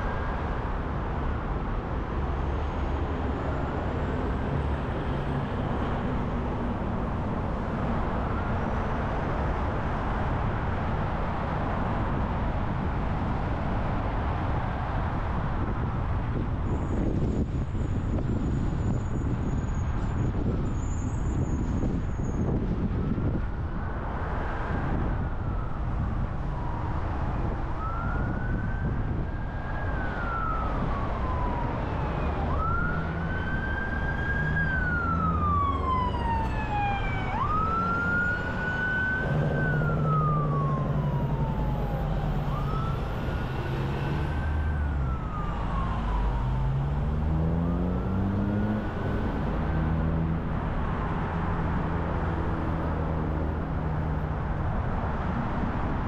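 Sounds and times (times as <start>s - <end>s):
car road noise: 0.0s - 56.0s
emergency vehicle siren wailing: 2.3s - 10.4s, 16.6s - 55.7s.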